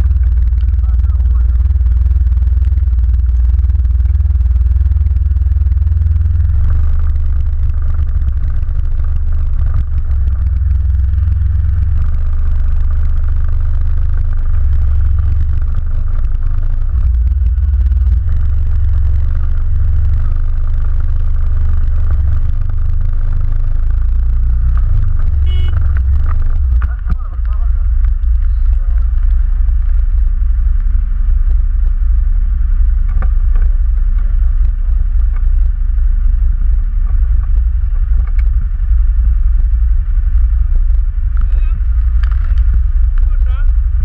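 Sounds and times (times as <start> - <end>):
atv engine rumbling: 0.0 - 44.0.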